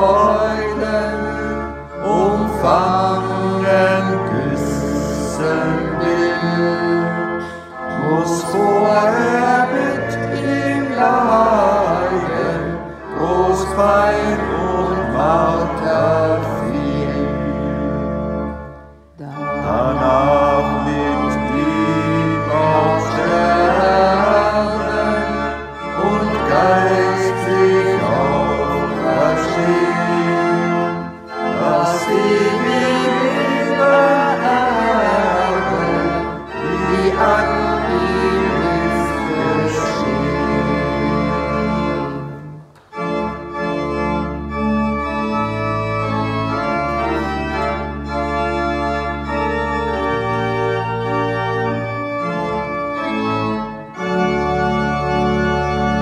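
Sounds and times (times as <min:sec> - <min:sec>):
organ music: 0:00.0 - 0:56.0.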